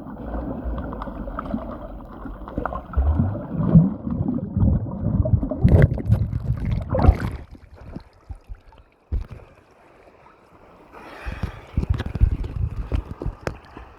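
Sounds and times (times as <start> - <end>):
water sloshing and splashing: 0.0 - 13.9.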